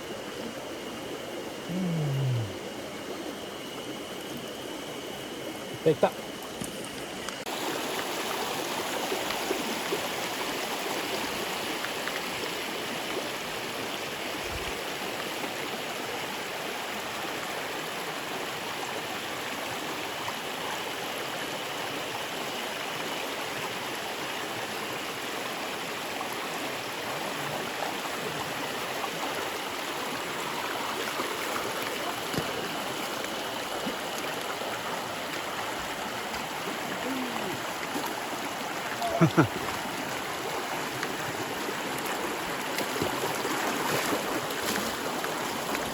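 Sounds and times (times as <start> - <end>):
stream flowing water: 0.0 - 45.9.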